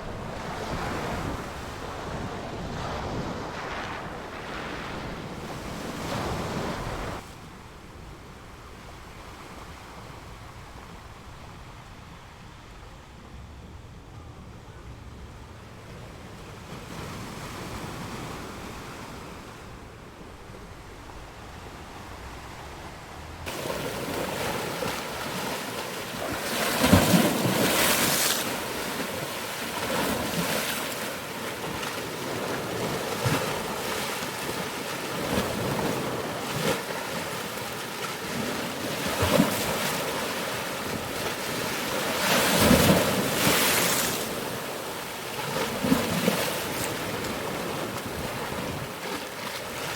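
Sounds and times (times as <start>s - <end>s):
ocean waves breaking: 0.0s - 7.4s, 15.8s - 49.9s.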